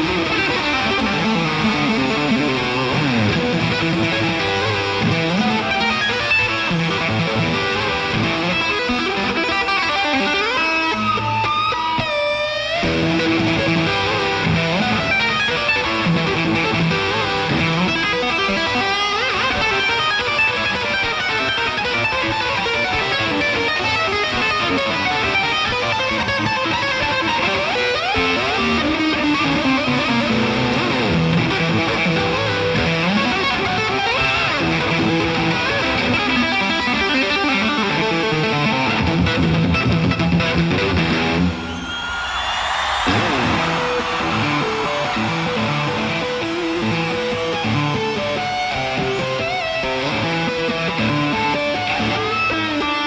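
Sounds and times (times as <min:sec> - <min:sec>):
electric guitar solo: 0:00.0 - 0:53.0.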